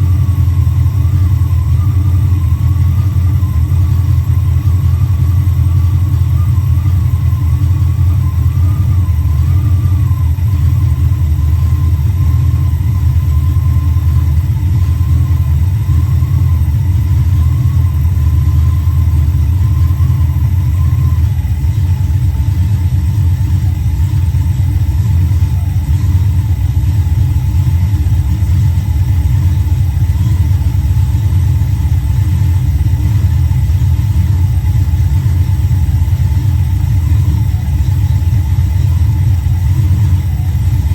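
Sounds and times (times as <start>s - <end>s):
engine running steadily: 0.0s - 40.9s
faint high whine: 0.0s - 40.9s.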